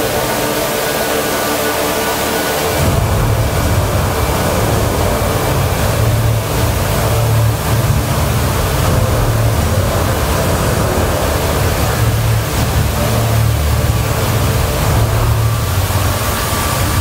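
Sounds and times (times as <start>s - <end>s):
fountain water rushing: 0.0s - 17.0s
low rumble: 2.6s - 17.0s.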